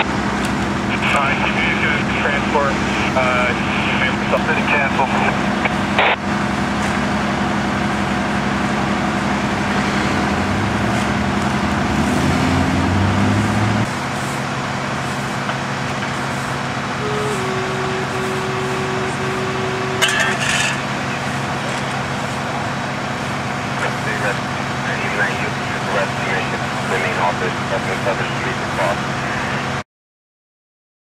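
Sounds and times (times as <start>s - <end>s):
vehicle engines idling: 0.0s - 29.8s.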